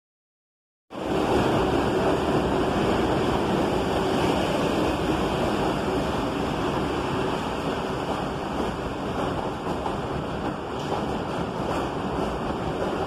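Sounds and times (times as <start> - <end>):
subway train rumbling past: 0.9 - 13.0.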